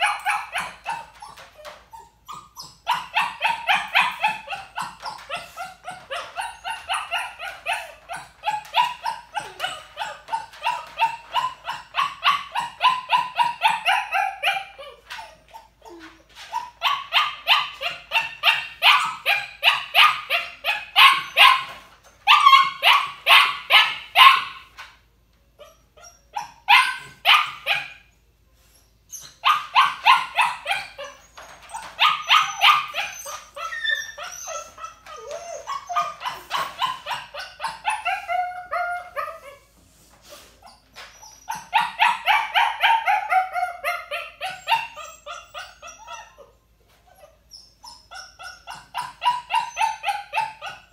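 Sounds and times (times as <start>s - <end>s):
puppy whining and howling: 0.0s - 24.2s, 29.1s - 39.7s, 40.8s - 50.9s
puppy yipping: 0.0s - 24.8s, 25.6s - 28.1s, 29.1s - 39.7s, 40.6s - 50.9s.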